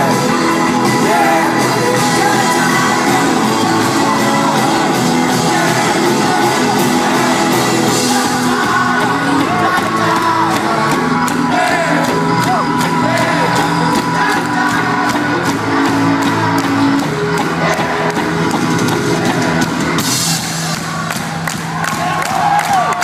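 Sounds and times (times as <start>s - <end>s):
person singing: 0.0s - 20.0s
crowd shouting and whooping: 0.0s - 23.0s
rock band playing live: 0.0s - 23.0s.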